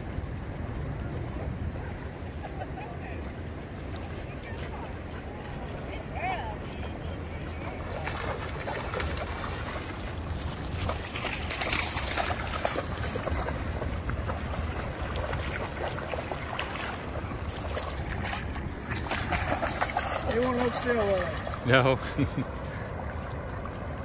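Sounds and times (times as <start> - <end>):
wind rumble on microphone: 0.0 - 24.0
dogs splashing in water: 3.8 - 24.0.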